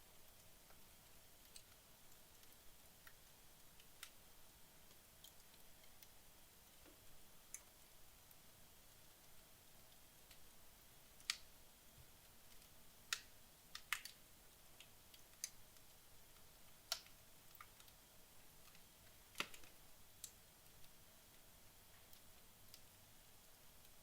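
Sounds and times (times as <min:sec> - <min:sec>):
faint steady hiss: 0:00.0 - 0:24.0
wood logs crackling in fireplace: 0:00.0 - 0:24.0.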